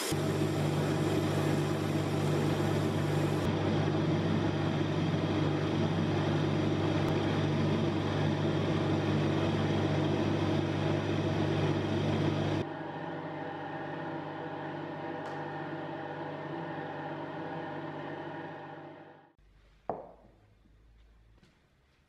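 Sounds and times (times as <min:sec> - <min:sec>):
wood lathe motor hum: 0:00.0 - 0:19.3.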